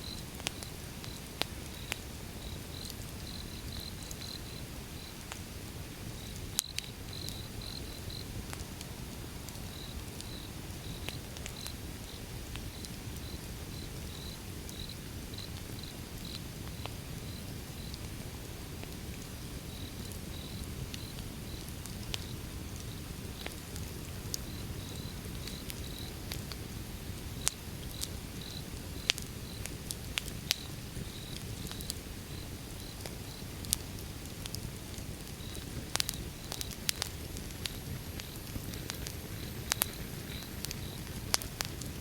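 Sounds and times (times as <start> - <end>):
fire crackles and pops: 0.0 - 42.0
wood fire rumble: 0.1 - 42.0.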